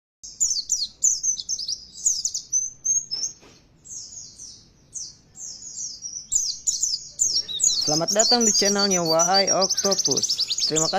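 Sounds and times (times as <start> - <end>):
bird twittering song: 0.2 - 10.9.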